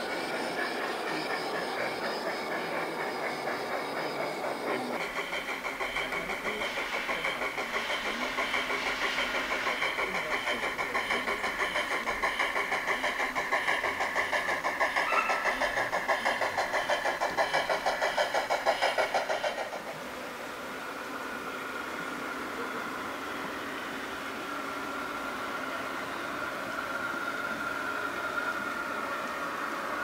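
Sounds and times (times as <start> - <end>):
model steam locomotive chuffing: 0.0 - 30.0.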